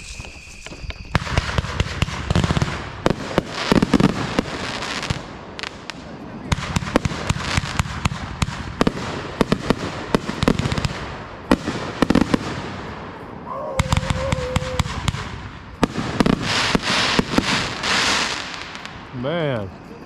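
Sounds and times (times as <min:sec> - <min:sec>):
fireworks bangs: 0:00.0 - 0:19.8
fireworks crackling: 0:00.0 - 0:20.0.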